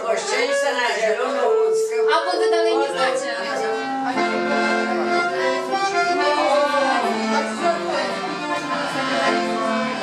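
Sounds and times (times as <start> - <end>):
folk dance tune: 0.0 - 10.0.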